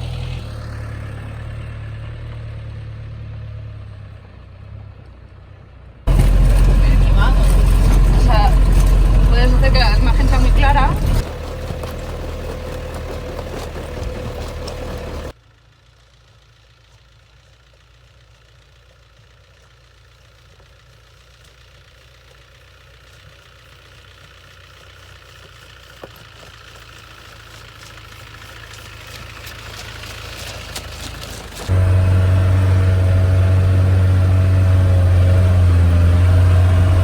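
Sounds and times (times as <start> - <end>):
car engine running: 0.0 - 2.4, 6.1 - 37.0.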